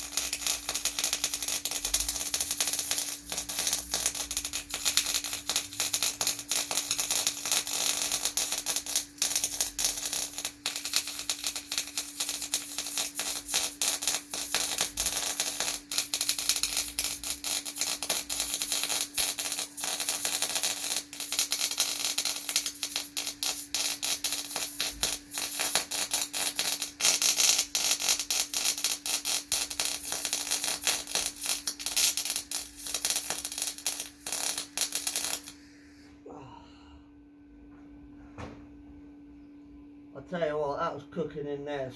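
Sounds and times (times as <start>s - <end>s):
welding arc crackling: 0.0s - 35.6s
steady hum: 0.0s - 41.9s.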